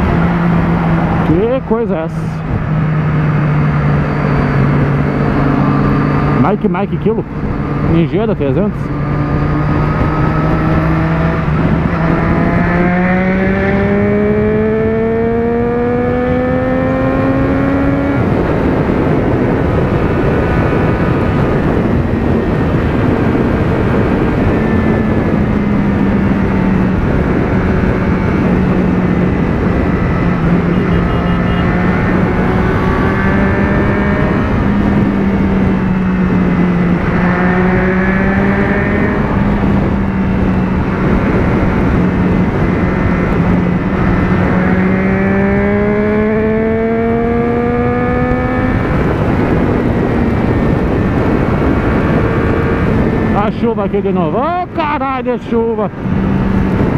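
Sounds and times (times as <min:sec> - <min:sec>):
motorcycle engine cruising: 0:00.0 - 0:56.9
wind and road noise: 0:00.0 - 0:56.9.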